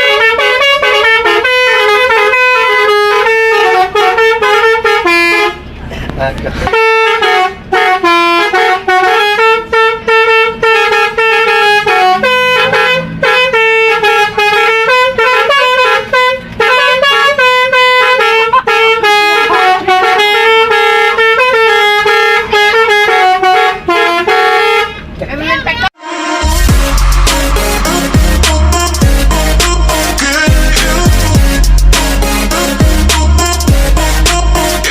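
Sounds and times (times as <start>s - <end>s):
bus musical air horn tune: 0.0s - 6.0s, 6.6s - 25.2s, 25.8s - 34.9s.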